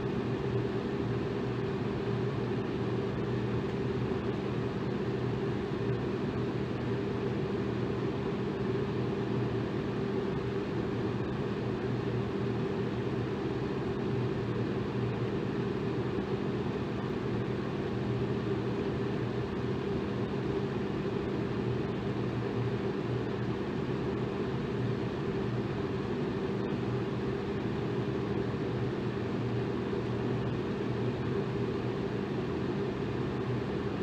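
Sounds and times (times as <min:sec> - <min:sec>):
electric fan running: 0:00.0 - 0:34.0.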